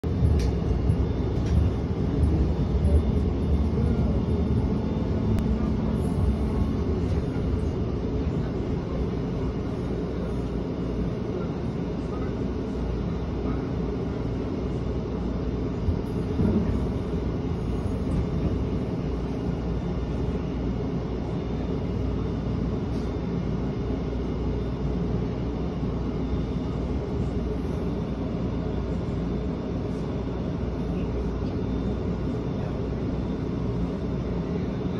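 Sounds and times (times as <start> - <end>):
faint hum: 0.0 - 34.9
tram wheels and motors rumbling: 0.0 - 34.9.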